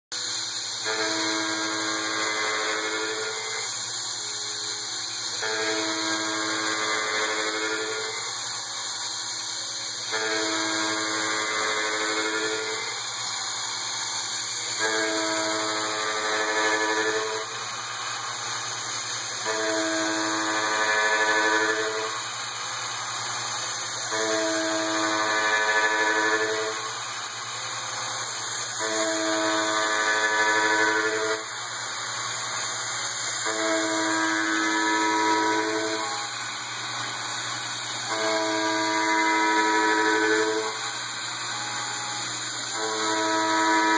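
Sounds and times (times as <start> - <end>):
cnc mill cutter whine: 0.1 - 43.9.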